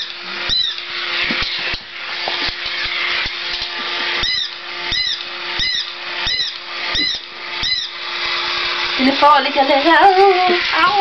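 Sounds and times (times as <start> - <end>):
toy motor whirring: 0.0 - 11.0.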